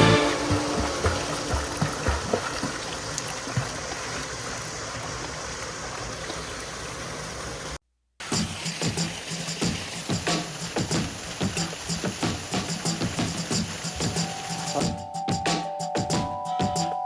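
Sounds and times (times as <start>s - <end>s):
small waterfall rushing: 0.0s - 14.9s.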